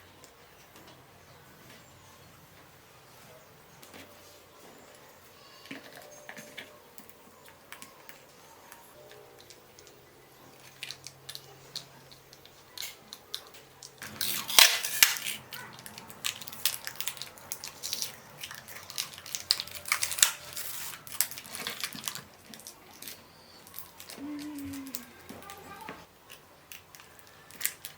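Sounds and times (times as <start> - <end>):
small parts clicking and tapping: 4.9 - 27.9.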